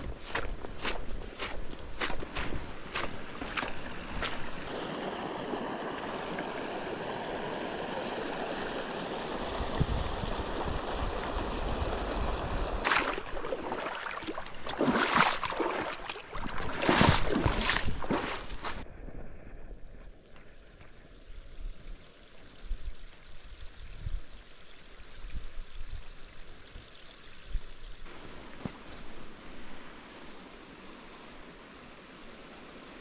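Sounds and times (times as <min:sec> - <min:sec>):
mountain stream running: 0:00.0 - 0:18.8, 0:20.0 - 0:33.0
noisy water surges: 0:00.0 - 0:18.8, 0:20.7 - 0:33.0.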